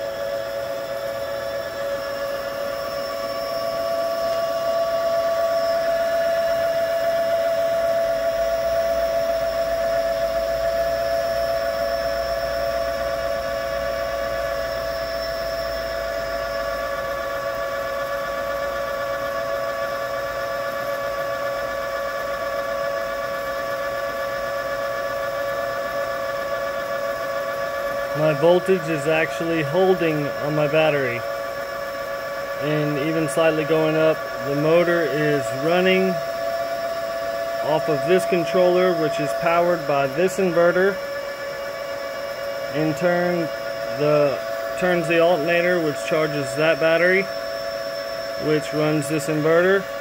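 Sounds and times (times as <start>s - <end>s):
electric motor whine: 0.0s - 50.0s.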